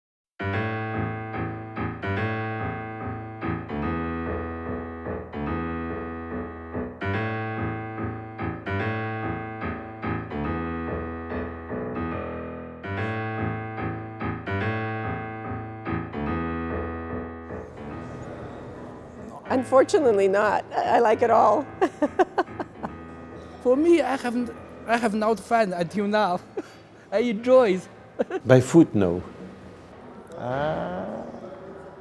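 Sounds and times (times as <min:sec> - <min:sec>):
rhythmic piano chords: 0:00.4 - 0:27.2.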